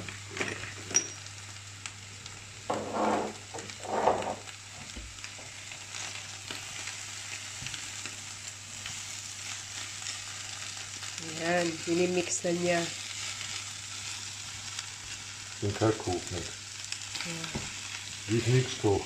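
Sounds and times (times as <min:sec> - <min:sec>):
potatoes sizzling in a pan: 0:00.0 - 0:19.0.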